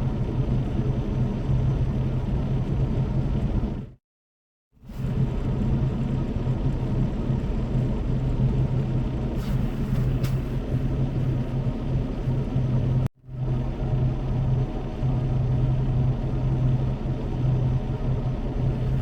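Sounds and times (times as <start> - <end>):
truck engine and road rumble: 0.0 - 4.0, 4.8 - 19.0.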